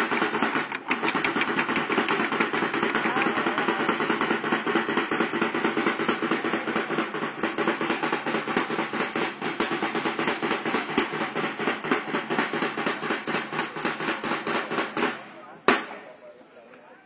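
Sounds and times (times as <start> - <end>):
rapid snare drumbeat: 0.0 - 16.2.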